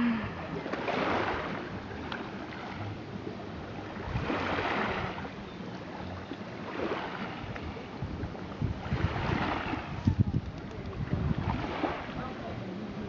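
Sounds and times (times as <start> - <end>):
sea waves on stony shore: 0.0 - 13.0
wind rumble on microphone: 0.0 - 13.0.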